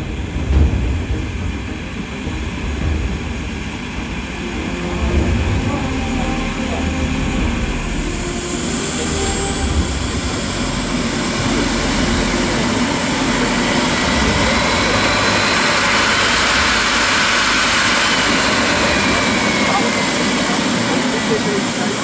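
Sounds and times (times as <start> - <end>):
model jet turbines whining: 0.0 - 22.0
second rising turbine whine: 0.0 - 22.0.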